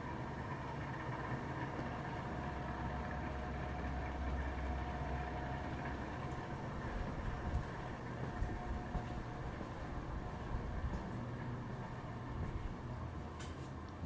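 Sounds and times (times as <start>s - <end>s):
ceiling fans running: 0.0s - 14.0s.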